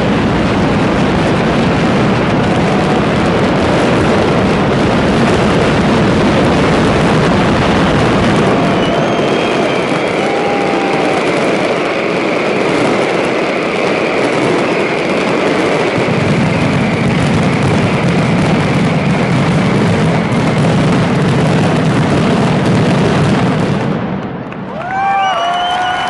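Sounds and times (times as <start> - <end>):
firecracker explosions roll: 0.0 - 26.0.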